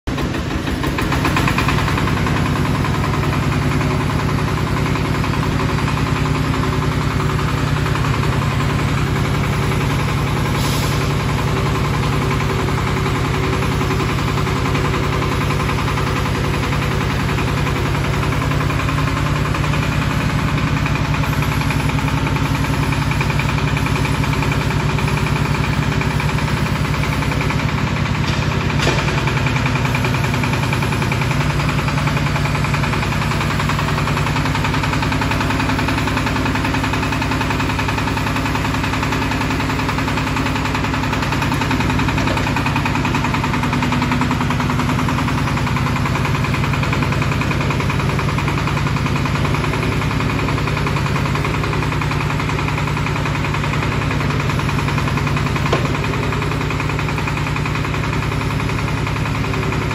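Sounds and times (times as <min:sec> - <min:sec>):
drilling rig engine running: 0:00.1 - 0:59.9.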